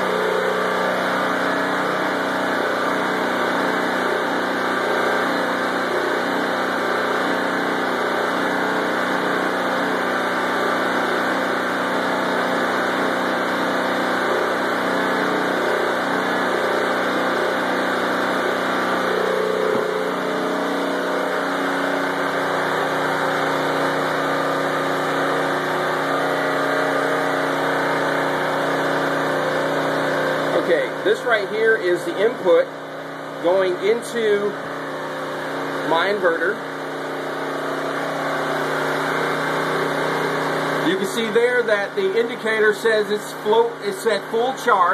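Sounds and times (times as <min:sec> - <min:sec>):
generator engine running: 0:00.0 - 0:44.9.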